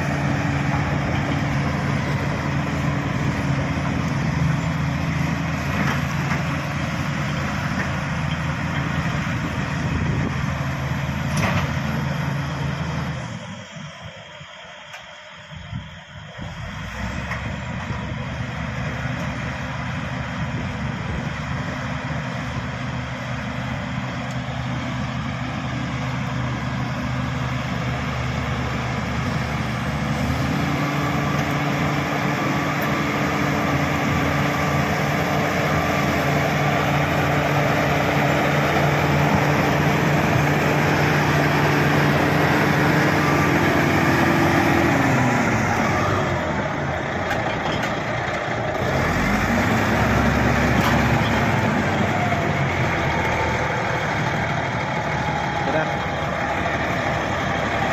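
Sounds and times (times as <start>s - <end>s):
bulldozer diesel engine: 0.0s - 57.9s.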